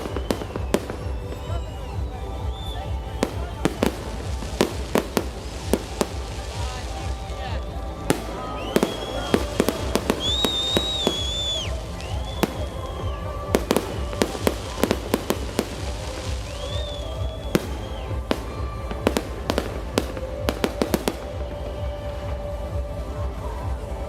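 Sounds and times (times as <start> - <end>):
firework bangs and cracks: 0.0 - 22.3
firework whistles: 0.0 - 22.4
music: 0.0 - 24.0.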